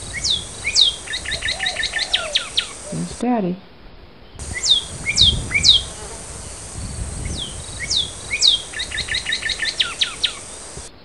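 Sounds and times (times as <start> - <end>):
bird chip calls: 0.0 - 3.2, 4.4 - 10.9.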